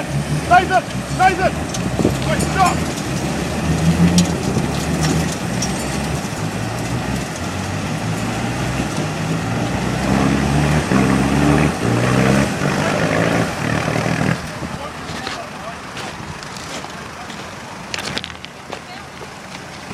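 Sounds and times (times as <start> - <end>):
truck engine running under load: 0.0 - 19.9.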